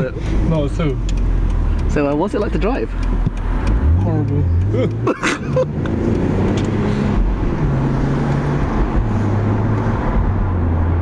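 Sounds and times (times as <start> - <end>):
car engine drone in cabin: 0.0 - 11.0
road noise: 0.0 - 11.0.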